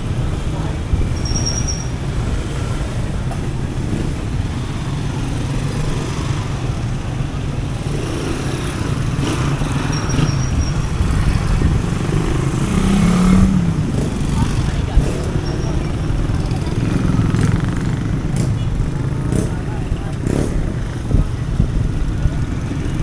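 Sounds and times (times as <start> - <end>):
faint voices: 0.0 - 23.0
vehicle engines rumbling: 0.0 - 23.0.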